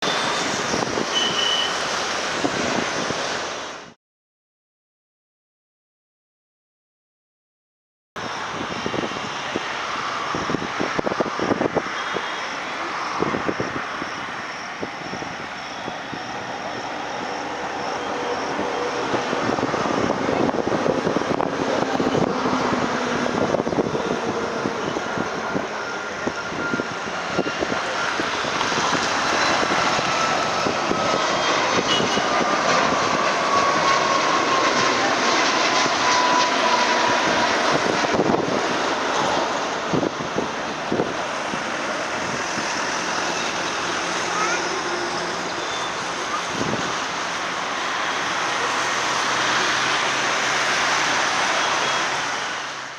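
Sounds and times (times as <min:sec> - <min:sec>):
jet engines: 0:00.0 - 0:04.0, 0:08.2 - 0:52.9.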